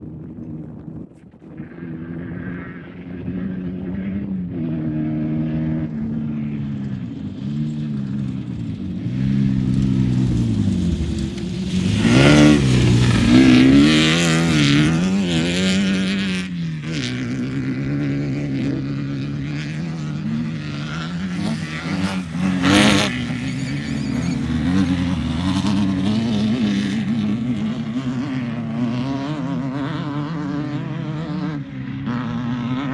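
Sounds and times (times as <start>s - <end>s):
race vehicle engine revving: 1.6s - 32.9s.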